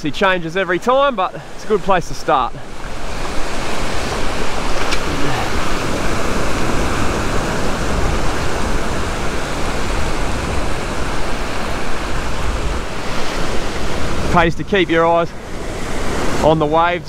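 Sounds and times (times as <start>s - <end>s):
ocean surf breaking on sand: 0.2s - 17.0s.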